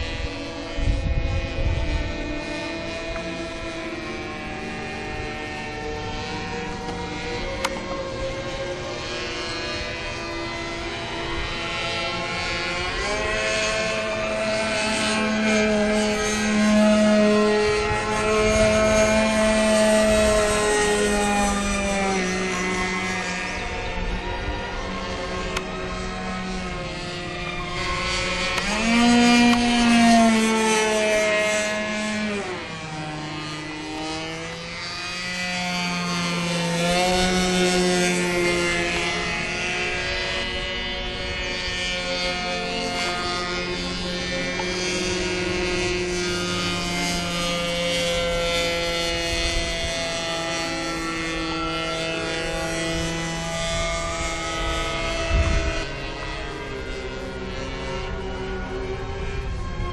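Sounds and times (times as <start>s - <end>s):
model airplane motor droning: 0.0s - 59.9s.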